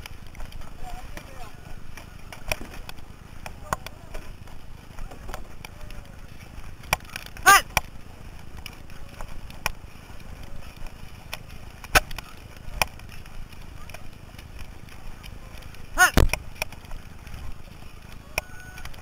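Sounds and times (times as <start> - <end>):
paddles knocking against canoe hull: 0.0 - 19.0
water splashing: 0.0 - 19.0
wind rumble on microphone: 0.0 - 19.0.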